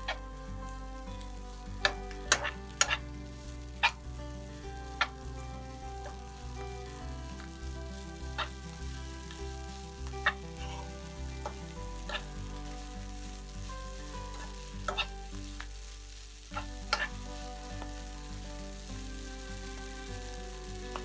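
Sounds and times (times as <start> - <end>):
noodles frying: 0.0 - 21.0.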